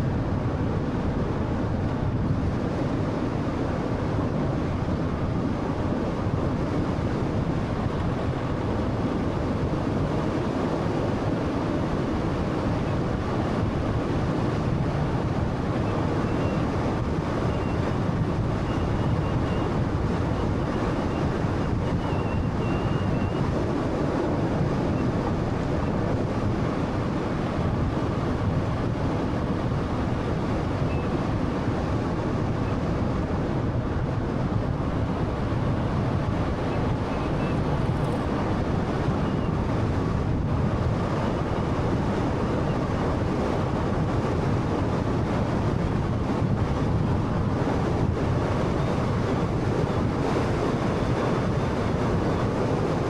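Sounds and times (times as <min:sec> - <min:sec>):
car road and tyre noise: 0:00.0 - 0:53.0.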